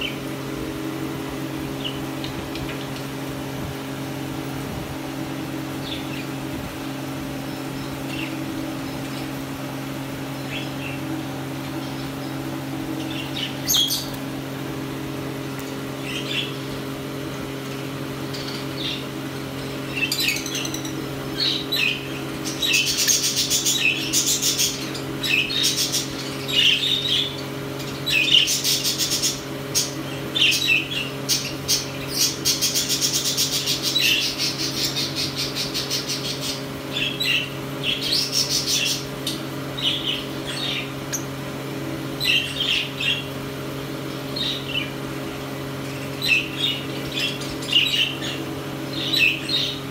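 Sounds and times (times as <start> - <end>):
lovebirds chirping and chattering: 0.0 - 49.9
steady low hum: 0.0 - 49.9.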